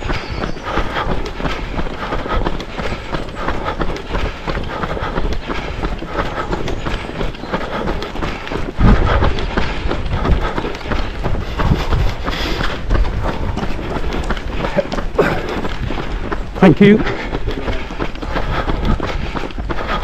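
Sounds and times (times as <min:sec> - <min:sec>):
footsteps running on treadmill: 0:00.0 - 0:20.0.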